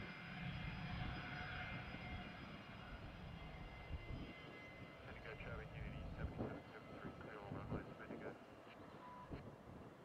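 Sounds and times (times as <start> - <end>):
jet engines whining at low power: 0.0 - 10.0.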